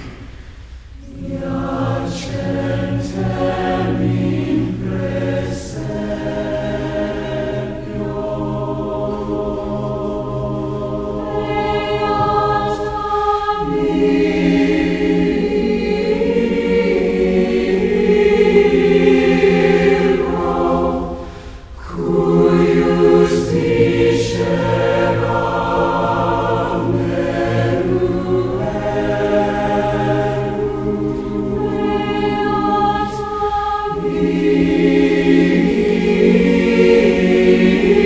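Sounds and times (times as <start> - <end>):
choir singing sustained chords: 0.0 - 38.0.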